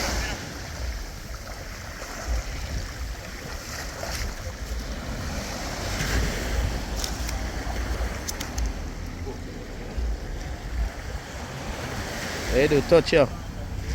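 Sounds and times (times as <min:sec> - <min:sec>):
sea water sloshing and waves: 0:00.0 - 0:13.9
wind buffeting the microphone: 0:00.0 - 0:13.9.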